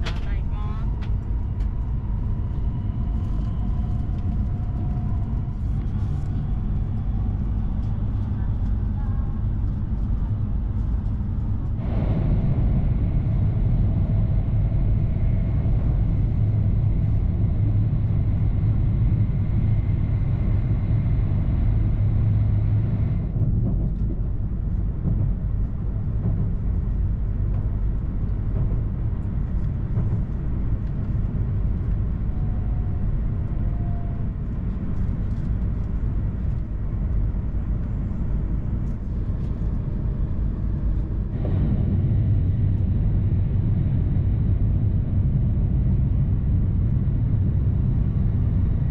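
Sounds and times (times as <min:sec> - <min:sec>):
train rumbling at speed: 0:00.0 - 0:48.9.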